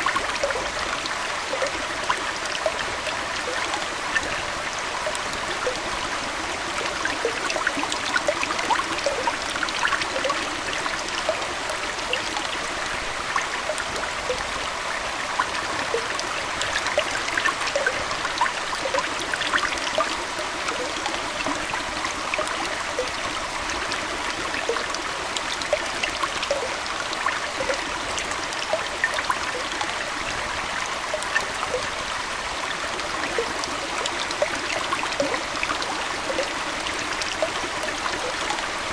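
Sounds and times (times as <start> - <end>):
aquarium water trickling: 0.0 - 38.9
bubbling plinks and drips: 0.0 - 38.9.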